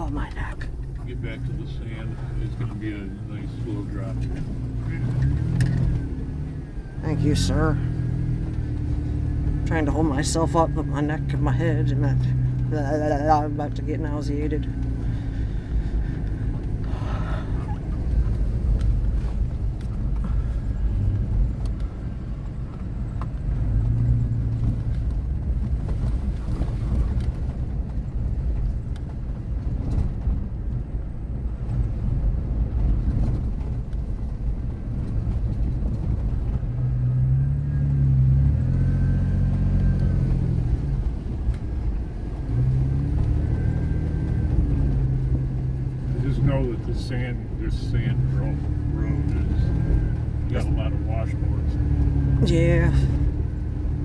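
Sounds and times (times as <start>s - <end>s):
vehicle engine and tyre rumble: 0.0s - 54.0s.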